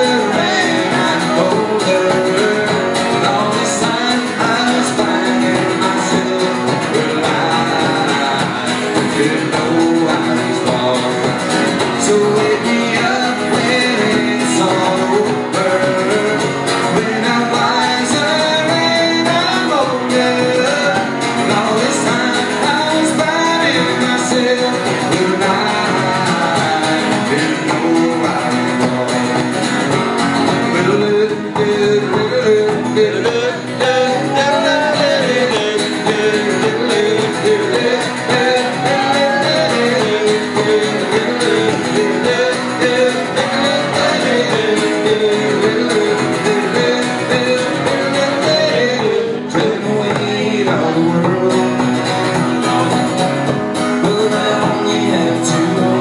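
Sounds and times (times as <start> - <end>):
acoustic guitar strumming: 0.0 - 56.0
man singing: 0.0 - 56.0.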